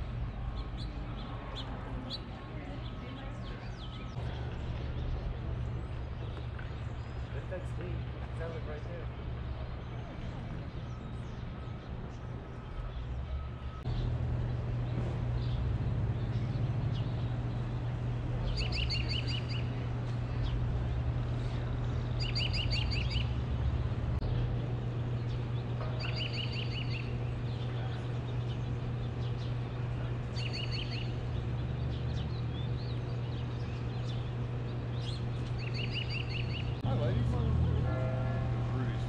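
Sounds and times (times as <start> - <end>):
songbird chirping: 0.0 - 39.0
steady low hum: 0.0 - 39.0.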